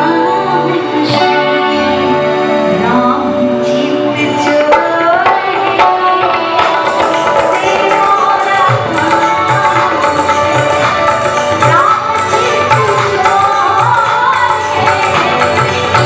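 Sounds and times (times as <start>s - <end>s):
harmonium melody: 0.0s - 16.0s
tabla playing rhythm: 0.0s - 16.0s.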